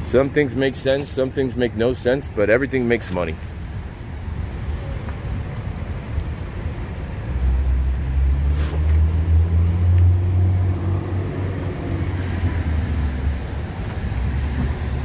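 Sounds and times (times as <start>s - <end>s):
car engines passing in traffic: 0.0s - 15.0s.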